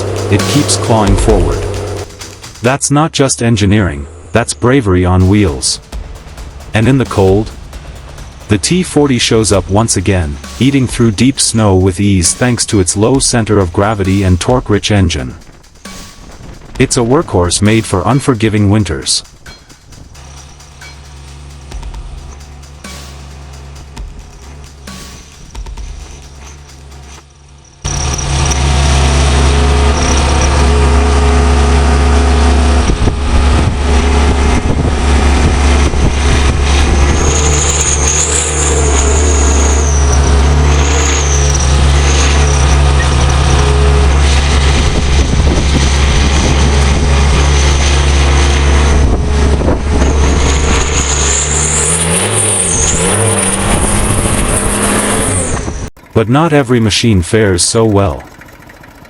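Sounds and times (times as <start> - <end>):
high whine: 0.0 - 55.9
tractor engine drone: 0.0 - 59.0.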